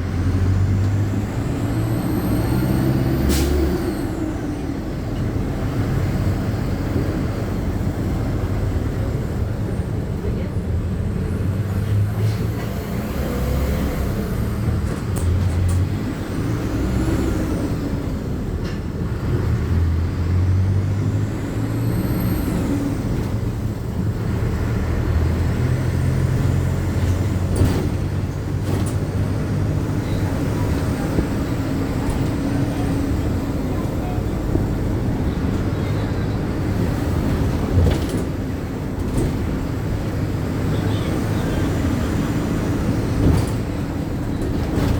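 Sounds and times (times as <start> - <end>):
bus engine rumble: 0.0 - 44.9.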